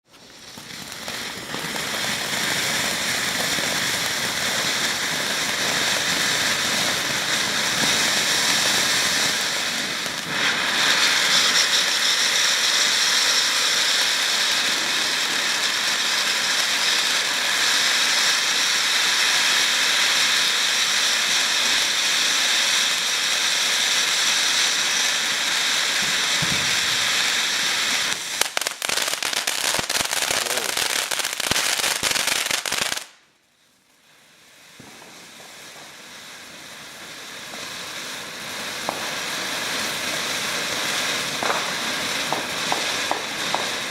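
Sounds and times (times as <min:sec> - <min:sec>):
firework crackling pops: 0:00.0 - 0:43.9
firework fountain hissing: 0:00.1 - 0:43.9.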